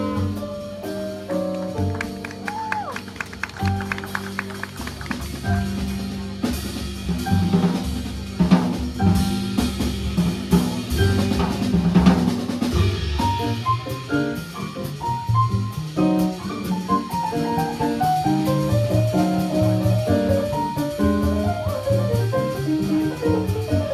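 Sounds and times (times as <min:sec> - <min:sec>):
drum kit: 0:00.0 - 0:23.9
electric piano: 0:00.0 - 0:23.9
jazz band playing: 0:00.0 - 0:23.9.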